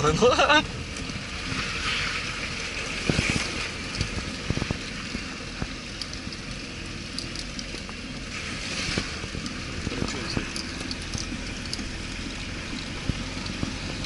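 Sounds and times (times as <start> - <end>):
off-road vehicle rumble: 0.0 - 14.0.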